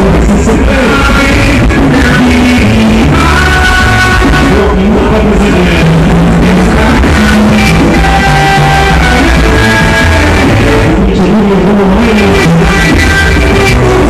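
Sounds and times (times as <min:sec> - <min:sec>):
loud music with strong bass: 0:00.0 - 0:14.0.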